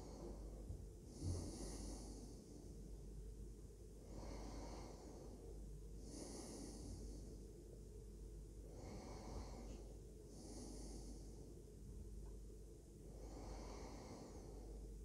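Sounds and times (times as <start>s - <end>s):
low steady hum: 0.0s - 15.0s
slow quiet breathing: 0.0s - 15.0s.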